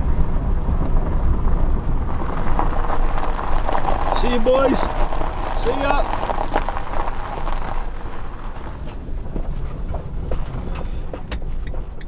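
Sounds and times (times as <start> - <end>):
van driving low rumble: 0.0 - 12.0.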